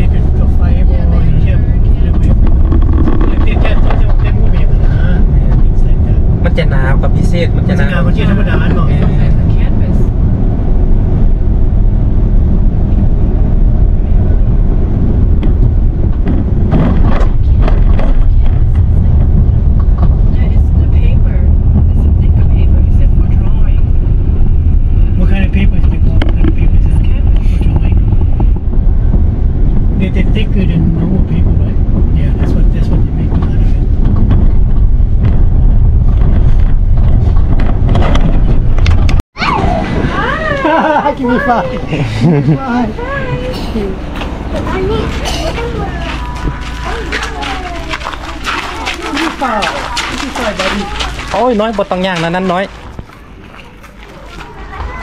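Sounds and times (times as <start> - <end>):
vehicle rumble from on board: 0.0 - 55.0
wind buffeting microphone: 0.0 - 55.0.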